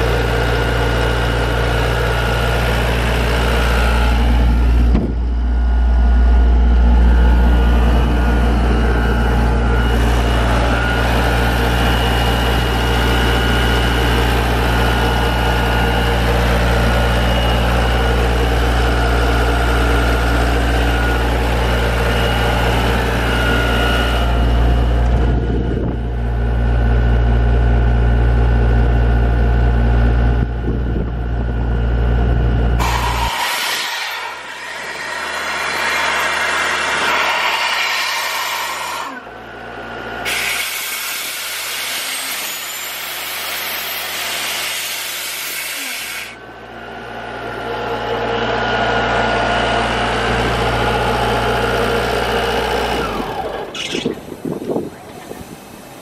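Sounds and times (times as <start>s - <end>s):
air compressor diesel engine droning: 0.0s - 56.0s.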